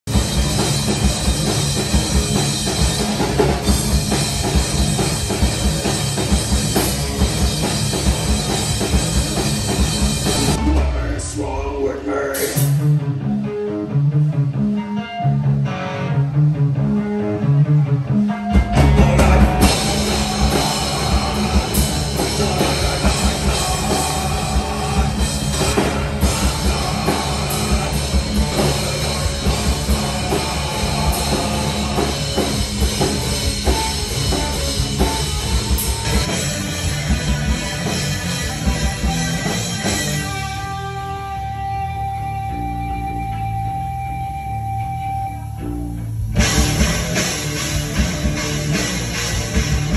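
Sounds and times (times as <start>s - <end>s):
drum kit: 0.0s - 13.2s, 18.2s - 49.9s
bass guitar: 0.0s - 49.9s
distorted electric guitars: 0.0s - 49.9s.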